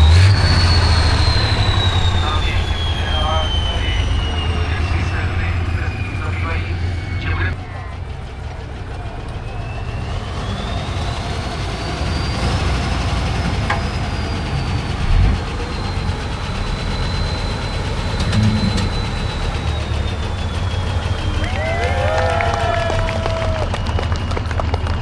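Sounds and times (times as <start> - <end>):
high engine whine: 0.0 - 25.0
truck engine rumbling under load: 0.0 - 25.0.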